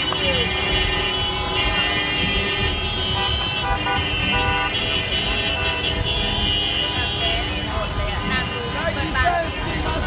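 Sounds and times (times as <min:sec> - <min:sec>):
car horns honking: 0:00.0 - 0:10.0
crowd noise: 0:00.0 - 0:10.0
street traffic: 0:00.0 - 0:10.0.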